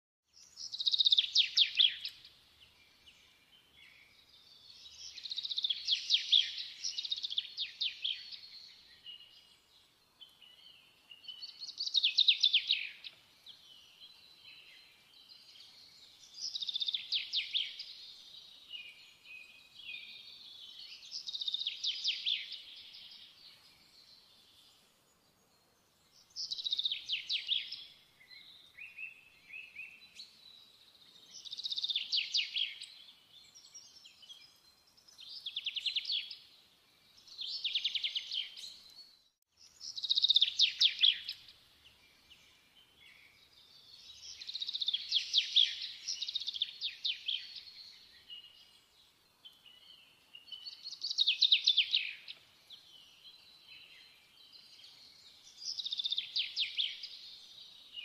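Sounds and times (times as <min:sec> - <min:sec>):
songbird singing with trills: 0:00.3 - 0:58.0.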